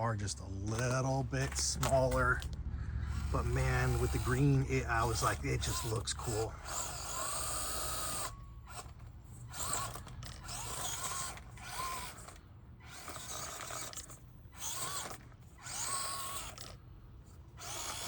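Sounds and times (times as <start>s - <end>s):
toy car motor and gears whining: 0.0s - 18.0s.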